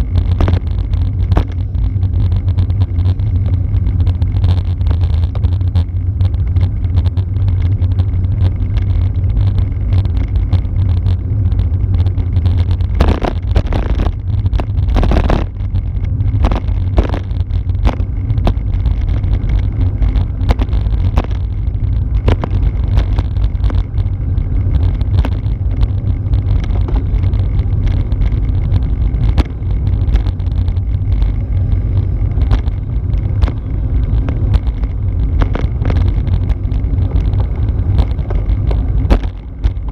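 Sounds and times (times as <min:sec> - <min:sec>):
tyre and road rumble: 0:00.0 - 0:39.9
wind rushing over microphone: 0:00.0 - 0:39.9.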